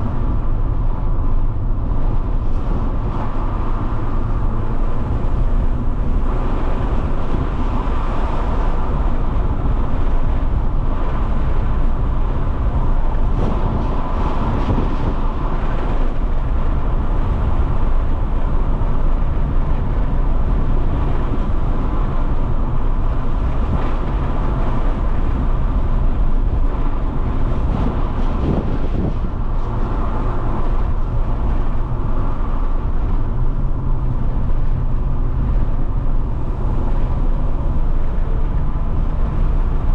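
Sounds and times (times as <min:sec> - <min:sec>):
car engine running: 0:00.0 - 0:39.9
road and tyre noise: 0:00.0 - 0:39.9.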